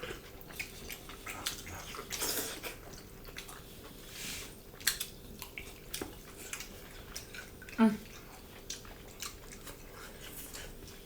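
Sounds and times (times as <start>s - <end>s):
wet chewing and lip smacks: 0.0s - 4.0s, 4.7s - 11.0s.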